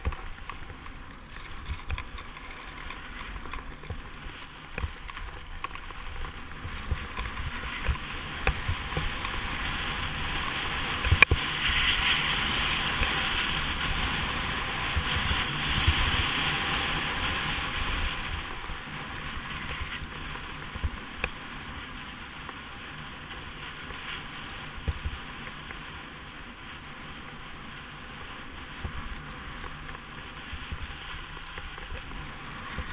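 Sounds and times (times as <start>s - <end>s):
ski scraping over snow: 0.0s - 32.9s
wind rumble on microphone: 0.0s - 32.9s.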